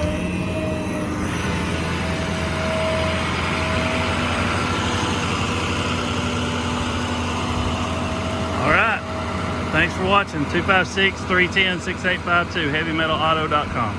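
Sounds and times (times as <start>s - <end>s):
diesel engine idling: 0.0s - 13.9s.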